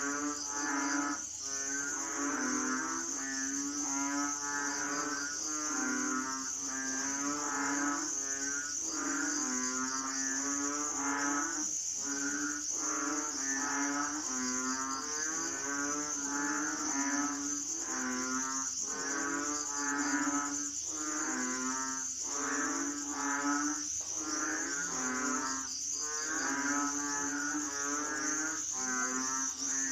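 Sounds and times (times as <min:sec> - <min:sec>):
frogs calling: 0:00.0 - 0:29.9
insects trilling: 0:00.0 - 0:29.9.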